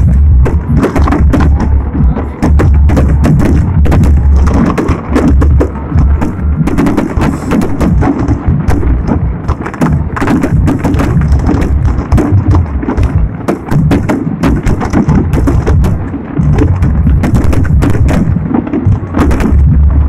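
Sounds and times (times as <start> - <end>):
continuous low rumble: 0.0 - 20.0
fireworks bangs and crackles: 0.0 - 20.0.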